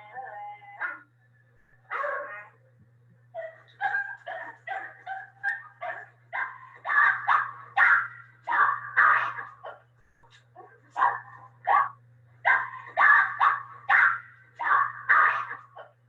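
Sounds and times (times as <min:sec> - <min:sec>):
steady low hum: 0:00.0 - 0:16.0
dog barking and yipping: 0:01.9 - 0:02.5, 0:03.4 - 0:16.0.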